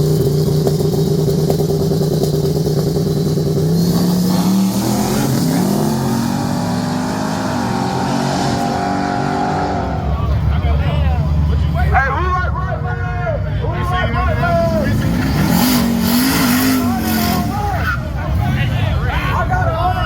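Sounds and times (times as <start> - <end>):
car engine running loudly: 0.0 - 20.0.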